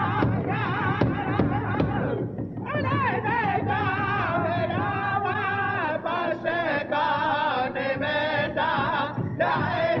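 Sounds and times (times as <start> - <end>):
chanting voices: 0.0 - 10.0.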